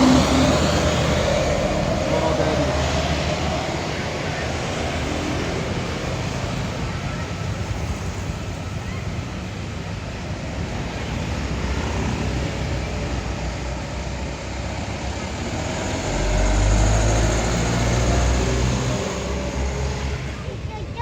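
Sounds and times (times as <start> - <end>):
bus diesel engine passing: 0.0 - 21.0
traffic noise: 0.0 - 21.0.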